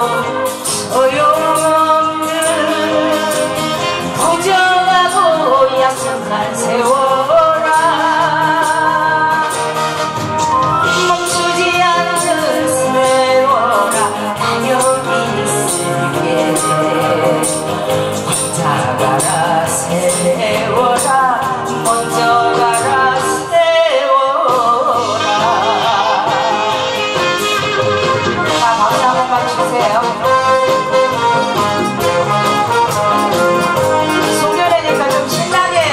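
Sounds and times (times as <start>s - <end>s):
woman singing into a microphone: 0.0s - 31.4s, 32.0s - 35.9s
backing music with steady beat: 0.0s - 35.9s.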